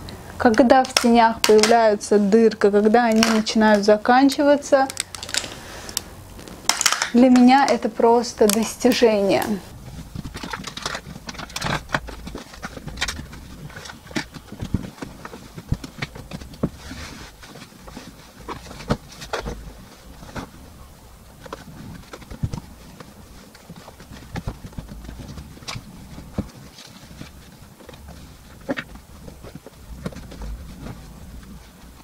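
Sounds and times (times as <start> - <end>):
bedding rustling and flapping: 0.6 - 32.0.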